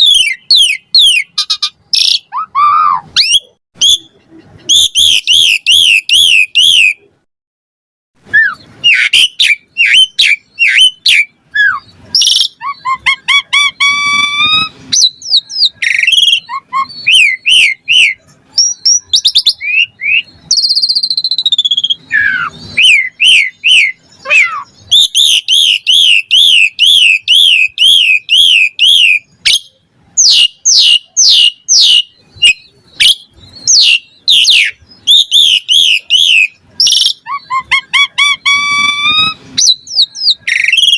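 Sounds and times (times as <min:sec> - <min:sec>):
starling singing: 0:00.0 - 0:07.2, 0:08.2 - 0:40.9.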